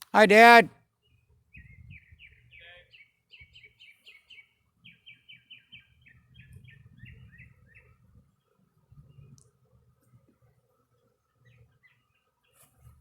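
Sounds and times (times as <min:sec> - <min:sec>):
songbird chirping: 0:00.4 - 0:09.6, 0:11.0 - 0:12.6.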